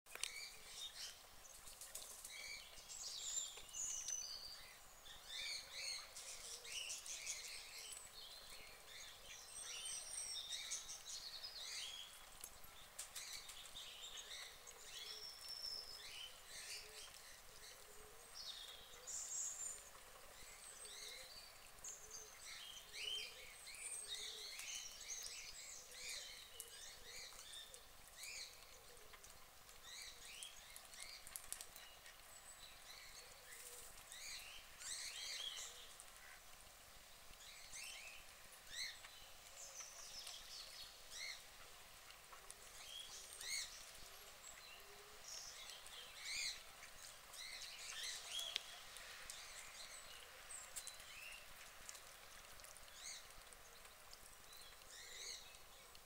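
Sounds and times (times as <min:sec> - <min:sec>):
small birds chirping: 0:00.1 - 0:56.0
steady low hiss: 0:00.1 - 0:56.0.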